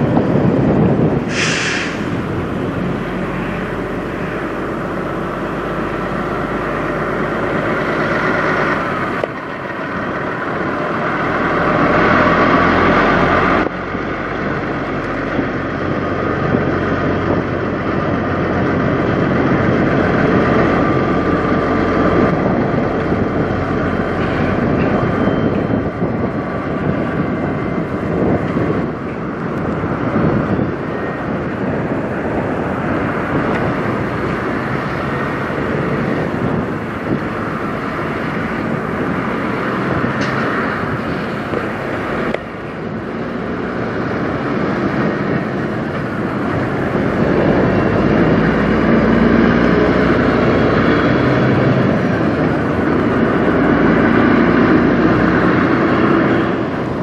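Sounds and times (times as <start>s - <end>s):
truck diesel engine passing: 0.0s - 57.0s.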